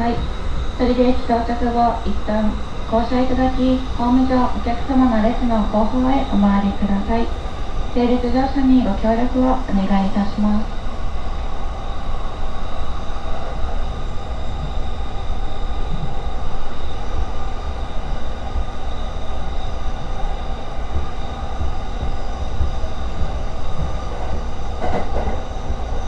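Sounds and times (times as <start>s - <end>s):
faint steady tones: 0.0s - 26.0s
train wheels rumbling on rail: 0.0s - 26.0s.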